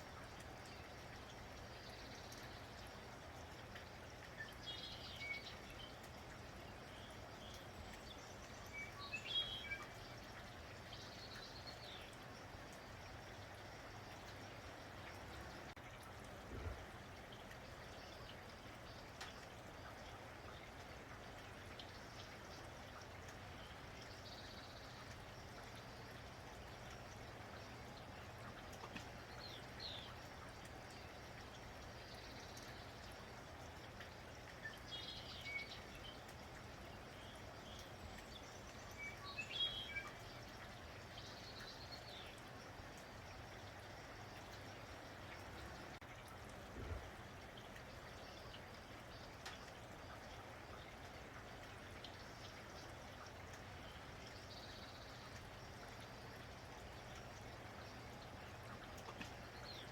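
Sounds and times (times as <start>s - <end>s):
faint steady rain: 0.0s - 59.9s.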